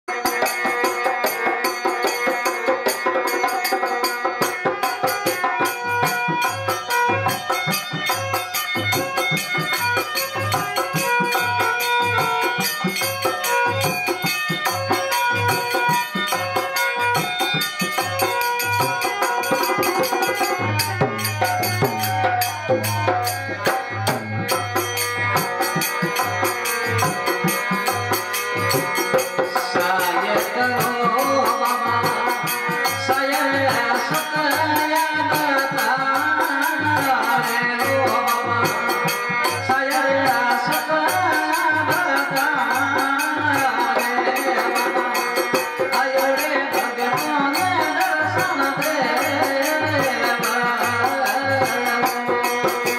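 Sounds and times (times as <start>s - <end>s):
percussion beat: 0.1s - 52.9s.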